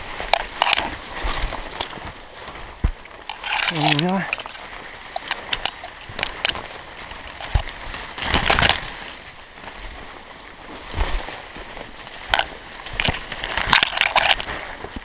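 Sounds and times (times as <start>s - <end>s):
branches brushing past: 0.0s - 15.0s
rustling and crunching dry leaves: 0.0s - 15.0s.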